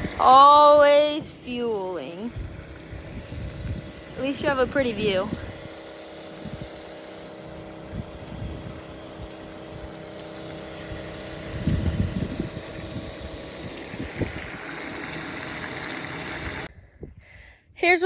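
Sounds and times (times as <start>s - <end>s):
fuel pump running: 0.0s - 16.7s.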